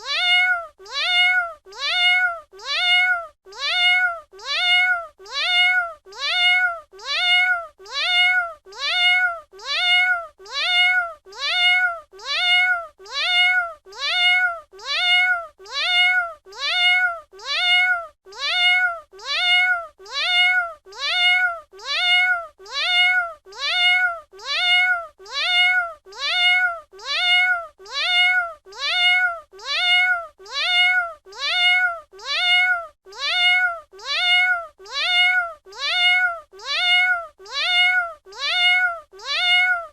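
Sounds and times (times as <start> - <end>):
cat meowing: 0.0 - 39.9.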